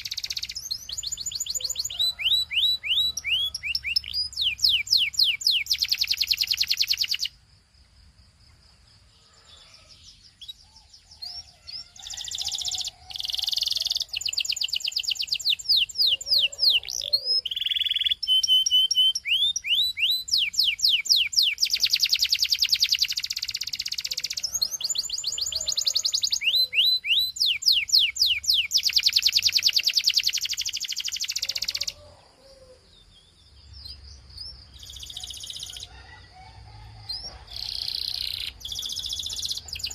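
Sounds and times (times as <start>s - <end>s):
canary singing trills: 0.0s - 7.4s, 9.2s - 36.2s, 37.0s - 39.9s.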